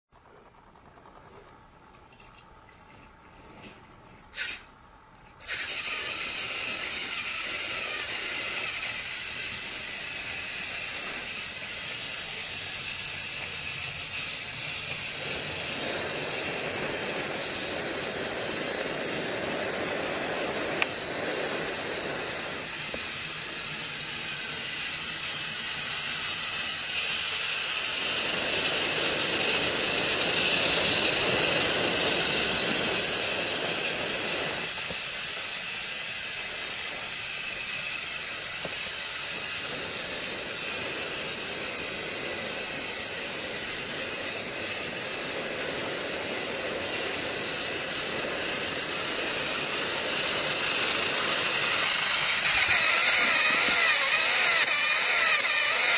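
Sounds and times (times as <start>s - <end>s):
train running: 0.2s - 55.9s.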